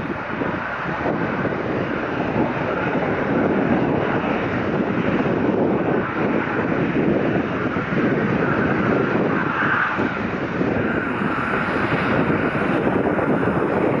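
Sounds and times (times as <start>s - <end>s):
jet engines at takeoff power: 0.0s - 14.0s.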